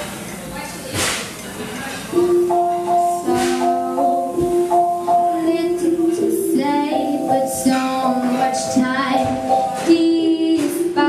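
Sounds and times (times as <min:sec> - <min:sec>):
girl singing into a microphone: 0:02.1 - 0:11.0.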